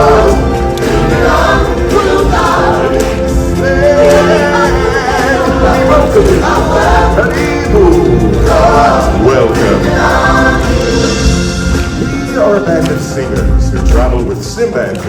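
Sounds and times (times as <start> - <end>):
choir singing upbeat song: 0.0 - 14.7
backing track with low beat: 0.0 - 15.0.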